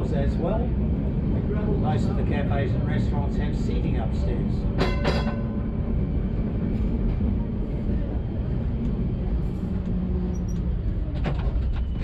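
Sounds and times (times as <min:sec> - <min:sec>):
tram rumbling along track: 0:00.0 - 0:12.0.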